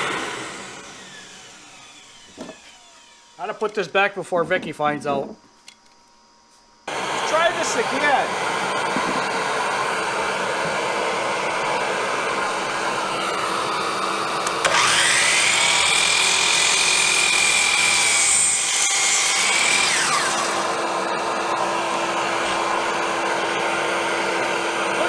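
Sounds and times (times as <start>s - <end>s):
steady whir: 0.0s - 4.0s, 6.8s - 25.0s
miter saw cutting wood: 0.0s - 4.2s, 6.8s - 25.0s.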